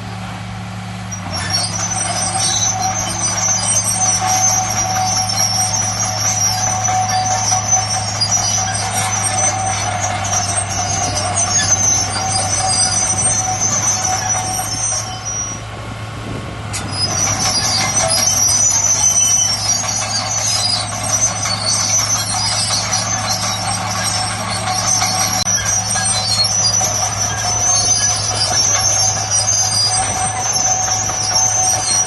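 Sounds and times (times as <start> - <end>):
bulldozer diesel engine drone: 0.0 - 32.0
high metallic squealing: 1.0 - 15.7, 16.7 - 32.0.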